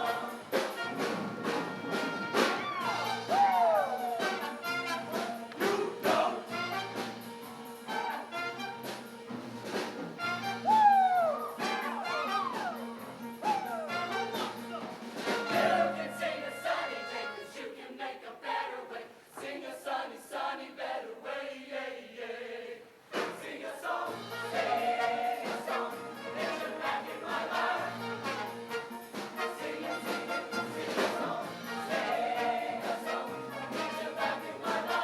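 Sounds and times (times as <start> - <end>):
choir singing in harmony: 0.0 - 8.4, 11.1 - 35.0
instrumental accompaniment: 0.0 - 17.4, 24.1 - 35.0.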